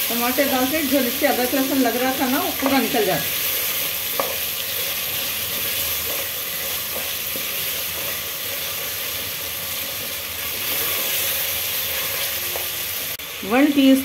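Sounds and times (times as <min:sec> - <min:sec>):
masala sizzling in hot oil: 0:00.0 - 0:14.0.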